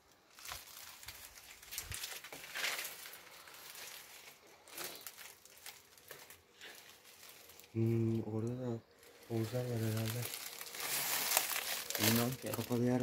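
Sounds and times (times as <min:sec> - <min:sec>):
footsteps on dry vegetation: 0:00.2 - 0:07.9, 0:09.0 - 0:13.0.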